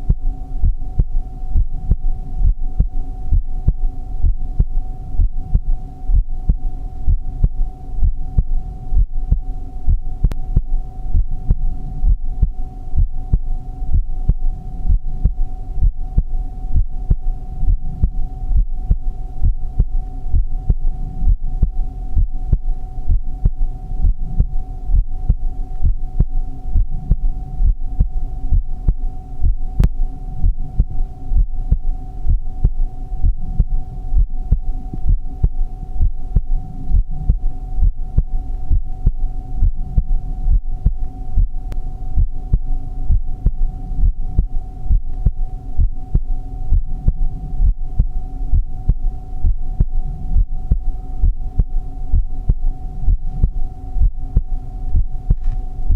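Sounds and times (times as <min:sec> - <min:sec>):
heartbeat thumps: 0:00.0 - 0:55.9
steady hum: 0:00.0 - 0:55.9.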